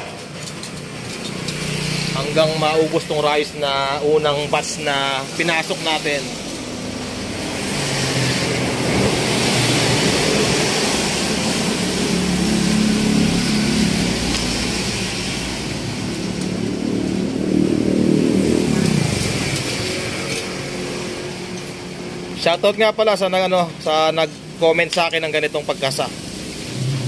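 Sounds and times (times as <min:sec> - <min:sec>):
vehicles passing: 0:00.0 - 0:27.0
road hiss: 0:01.0 - 0:21.4, 0:23.6 - 0:27.0.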